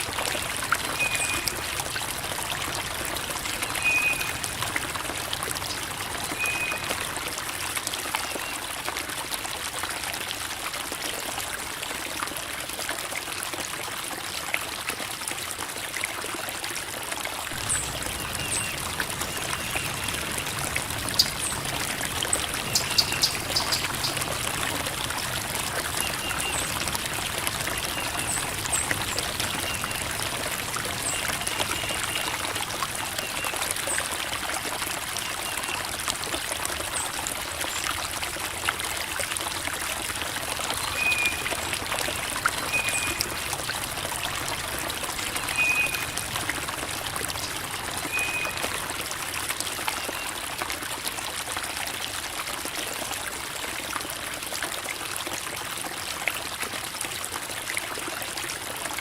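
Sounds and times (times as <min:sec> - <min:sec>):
creek water babbling over rocks: 0:00.0 - 0:59.0.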